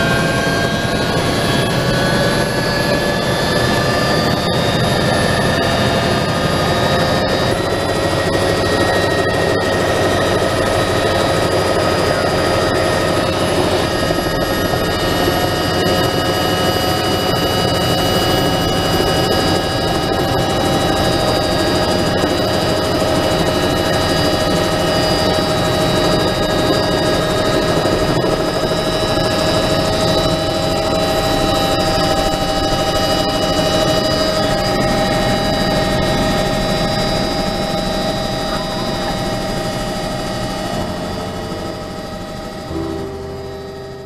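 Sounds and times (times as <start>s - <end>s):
helicopter turbine and rotor: 0.0s - 44.0s.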